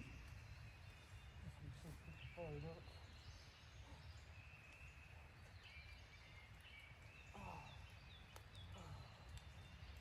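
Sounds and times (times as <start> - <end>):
faint songbirds chirping: 0.0 - 10.0.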